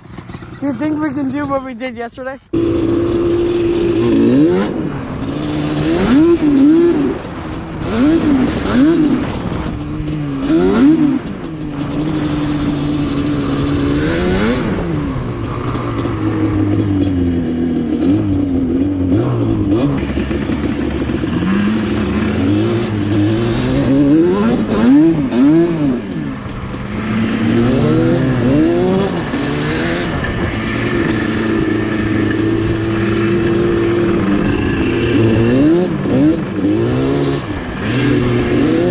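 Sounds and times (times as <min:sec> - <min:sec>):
two-stroke atv engines revving: 0:00.0 - 0:38.9.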